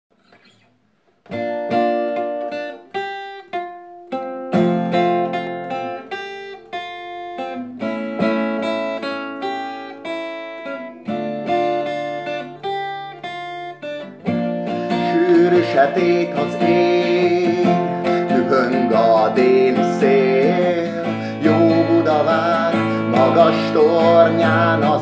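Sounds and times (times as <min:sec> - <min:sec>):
acoustic guitar playing: 0:00.2 - 0:25.0.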